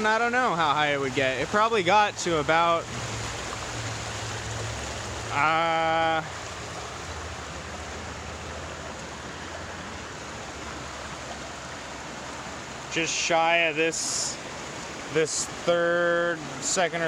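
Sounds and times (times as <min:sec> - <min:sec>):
water rushing along a seawall: 0:00.0 - 0:17.0.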